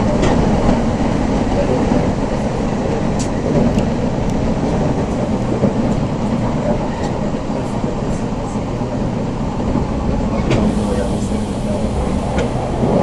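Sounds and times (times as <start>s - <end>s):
train rumbling at speed: 0.0s - 13.0s.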